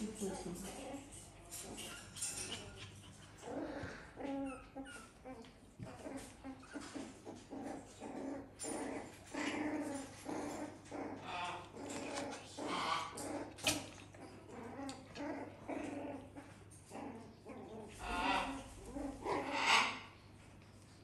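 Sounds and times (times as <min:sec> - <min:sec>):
puppies whimpering and grunting: 0:00.0 - 0:21.0.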